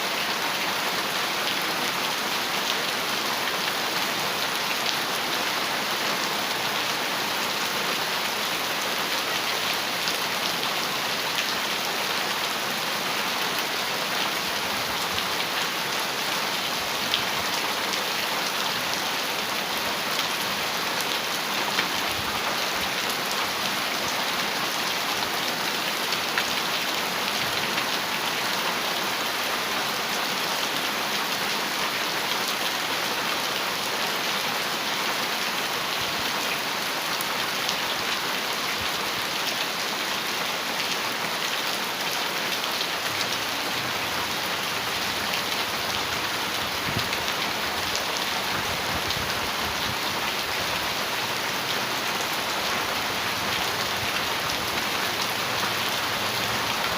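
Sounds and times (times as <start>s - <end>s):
heavy rain on a metal roof: 0.0s - 56.9s.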